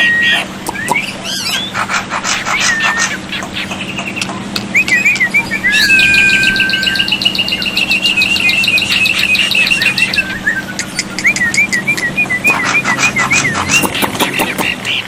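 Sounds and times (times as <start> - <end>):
starling singing: 0.0 - 15.0.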